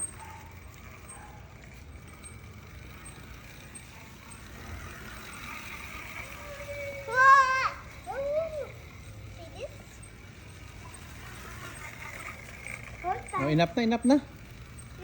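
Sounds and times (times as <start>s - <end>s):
small electric motor whirring: 0.0s - 15.0s.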